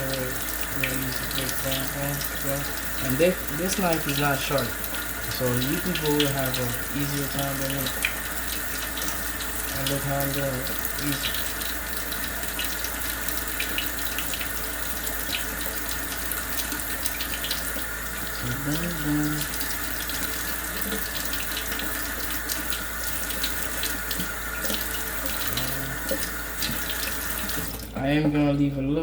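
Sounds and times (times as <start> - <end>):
tap running into sink: 0.0 - 28.5.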